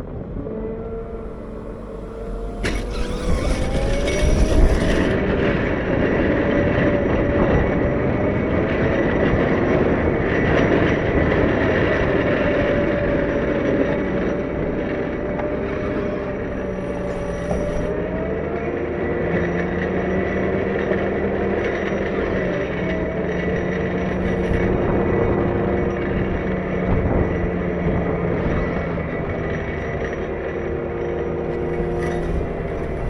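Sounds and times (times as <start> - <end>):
wheel loader running: 0.0 - 33.0.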